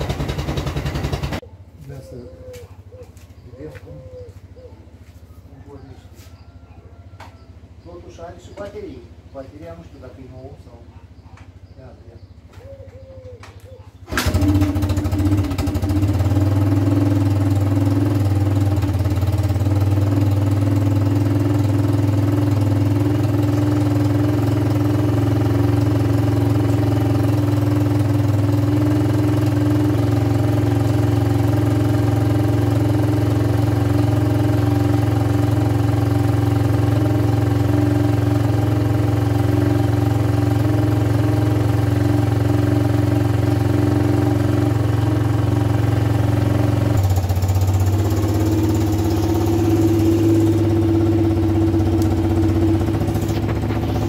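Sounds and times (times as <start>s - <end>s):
atv engine starting and idling: 0.0s - 3.2s, 11.5s - 54.0s.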